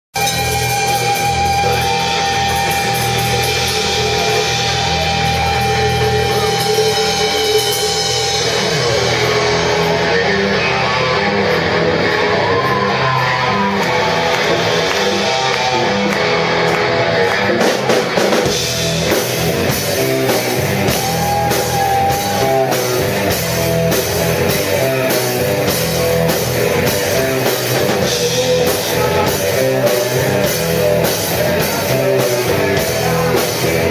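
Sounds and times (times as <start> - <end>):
live rock band playing: 0.1 - 33.9
electric guitar lead line: 0.2 - 33.9.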